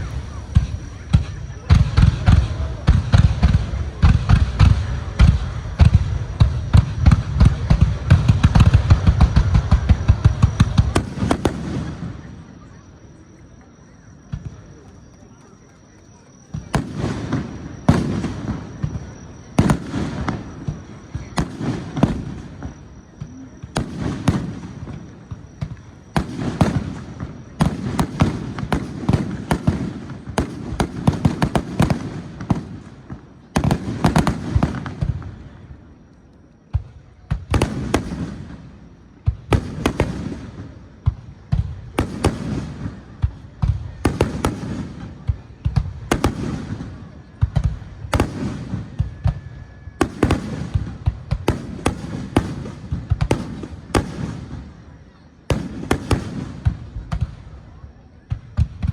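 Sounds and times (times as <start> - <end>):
fireworks bursting: 0.0 - 58.9.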